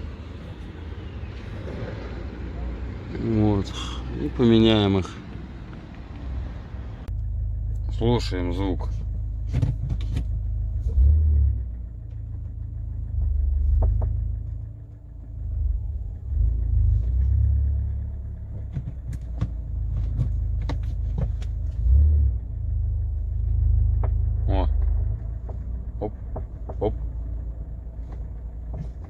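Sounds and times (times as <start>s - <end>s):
car rumbling: 0.0s - 29.0s.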